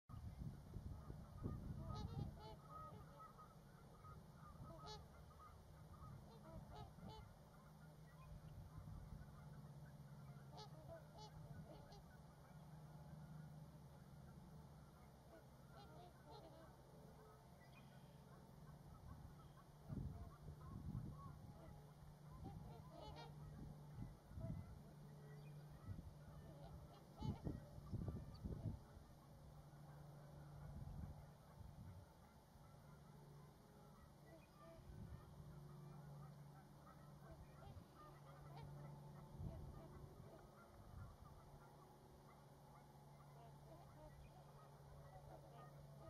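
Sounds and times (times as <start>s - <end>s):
distant birds honking: 0.1s - 46.0s
low steady rumble: 0.1s - 46.0s.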